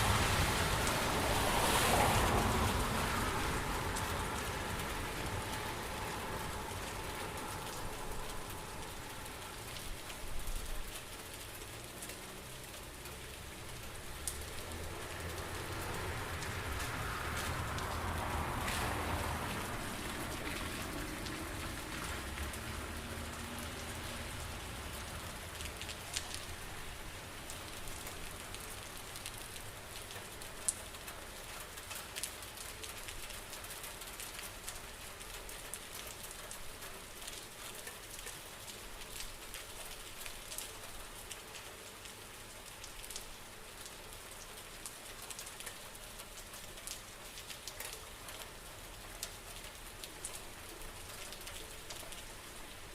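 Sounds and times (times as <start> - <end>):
raindrops ticking on surface: 0.0 - 52.9
steady rain falling: 0.0 - 52.9.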